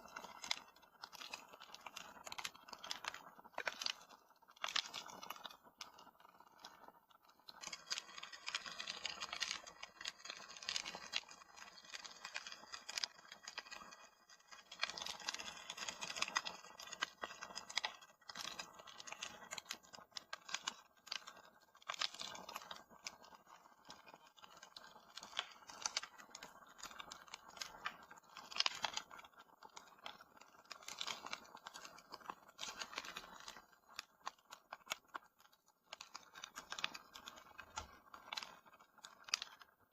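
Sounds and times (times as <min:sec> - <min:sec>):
wood fire crackling: 0:00.0 - 0:04.1, 0:04.7 - 0:20.3, 0:21.0 - 0:39.7.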